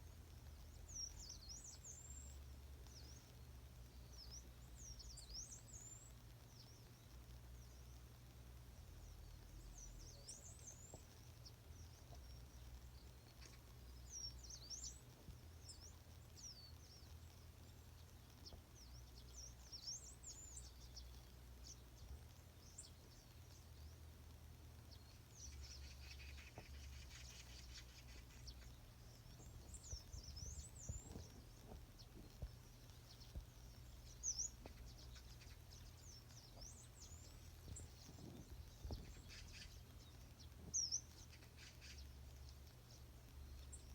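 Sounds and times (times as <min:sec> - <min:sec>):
low steady rumble: 0:00.0 - 0:43.9
small birds chirping: 0:00.0 - 0:43.9.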